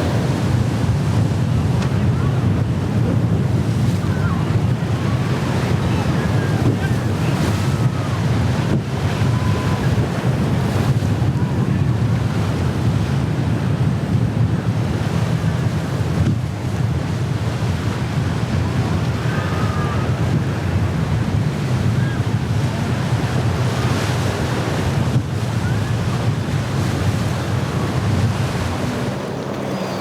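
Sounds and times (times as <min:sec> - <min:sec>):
waves and surf churning: 0:00.0 - 0:30.0
wind buffeting microphone: 0:00.0 - 0:30.0.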